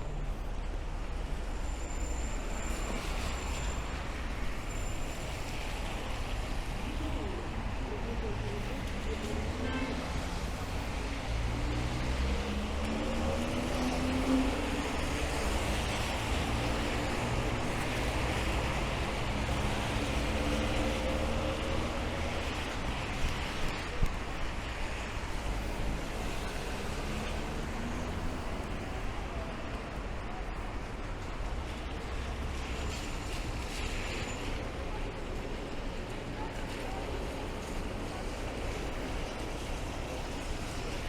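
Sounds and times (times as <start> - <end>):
steady hiss of rain: 0.0 - 41.0
tyres hissing on wet street: 0.0 - 41.0.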